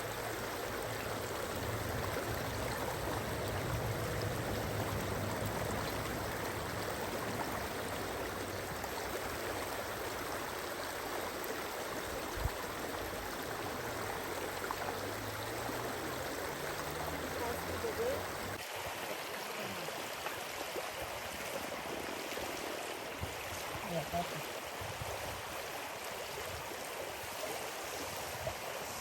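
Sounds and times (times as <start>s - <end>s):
running water rushing: 0.0s - 29.0s.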